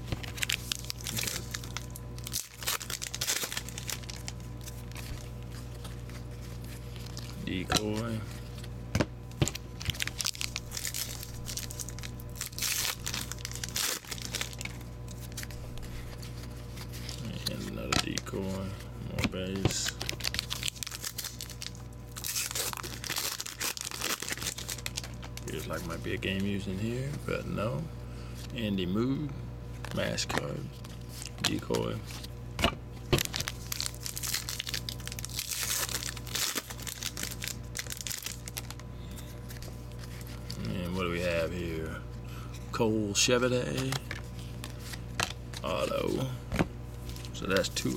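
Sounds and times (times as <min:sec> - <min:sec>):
foil wrapper crinkling and tearing: 0:00.0 - 0:18.8, 0:19.4 - 0:27.1, 0:29.8 - 0:32.3, 0:33.0 - 0:41.9, 0:43.1 - 0:46.3, 0:46.9 - 0:47.9.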